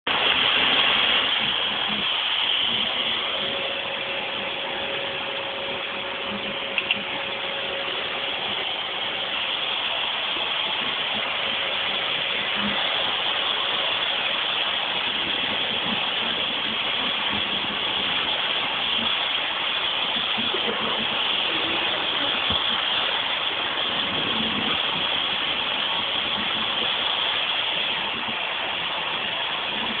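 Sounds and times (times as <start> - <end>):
vacuum cleaner running: 0.1 - 30.0.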